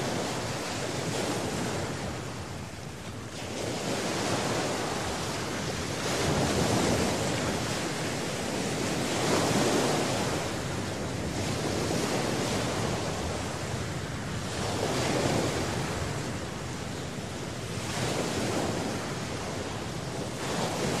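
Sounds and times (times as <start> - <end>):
small waves washing onto sand: 0.0 - 21.0
wind on microphone: 0.0 - 21.0.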